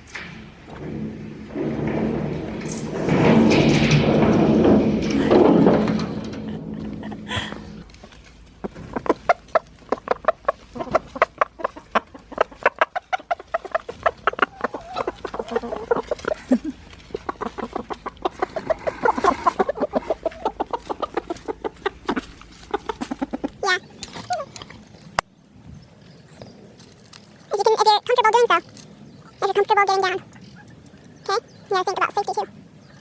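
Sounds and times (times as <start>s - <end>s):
chickens clucking: 0.0s - 25.3s, 26.0s - 33.0s.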